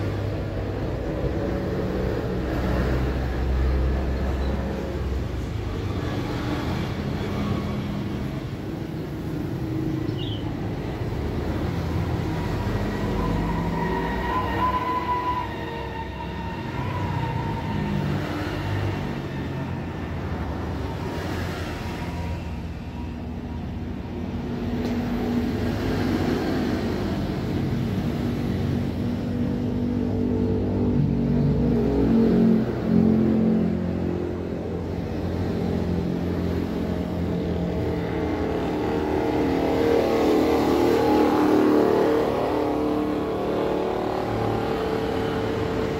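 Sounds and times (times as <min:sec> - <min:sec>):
vehicle engines revving: 0:00.0 - 0:45.9.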